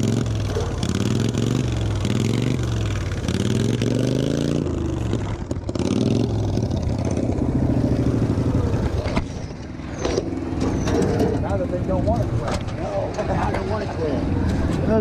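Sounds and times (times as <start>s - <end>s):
riding lawnmower engine revving: 0.0s - 15.0s.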